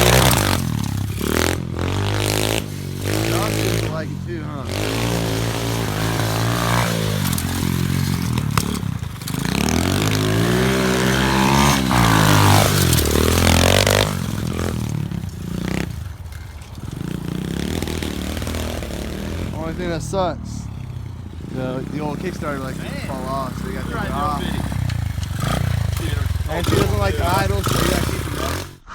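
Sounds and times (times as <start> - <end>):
bike clattering: 0.0 - 28.8
pit bike engine revving: 0.0 - 28.9.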